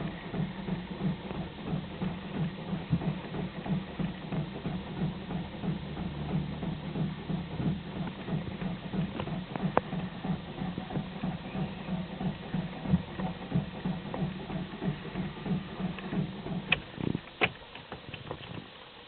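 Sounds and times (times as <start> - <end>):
starter motor cranking engine: 0.0 - 18.7.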